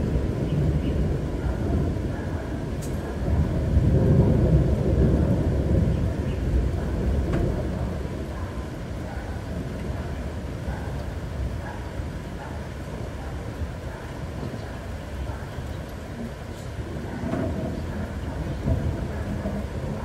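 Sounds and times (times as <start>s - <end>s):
rolling thunder rumble: 0.0s - 20.0s.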